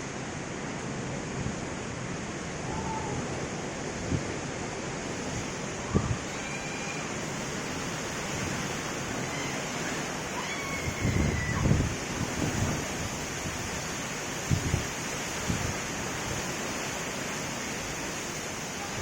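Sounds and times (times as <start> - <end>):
gusting wind: 0.0 - 19.0
heavy rain: 0.0 - 19.0.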